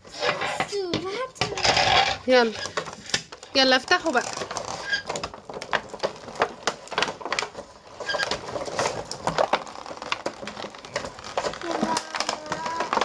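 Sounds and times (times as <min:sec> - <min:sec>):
plastic film crinkling: 0:01.9 - 0:13.0.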